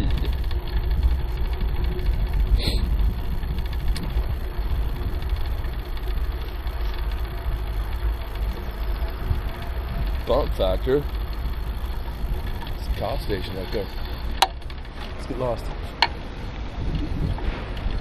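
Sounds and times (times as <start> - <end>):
bicycle tyres rolling on pavers: 0.0 - 18.0
low wind rumble on microphone: 0.0 - 18.0.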